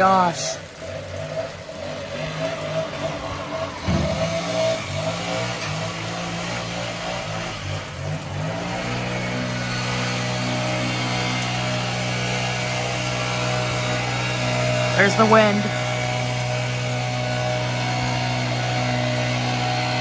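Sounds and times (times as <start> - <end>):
heavy rain hiss: 0.0 - 20.0
leaf blower engine running: 0.0 - 20.0.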